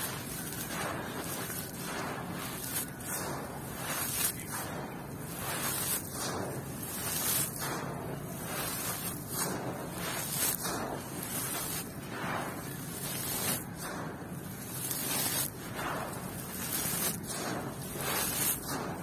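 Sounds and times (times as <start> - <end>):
dirt and pebbles poured on floor: 0.0 - 19.0.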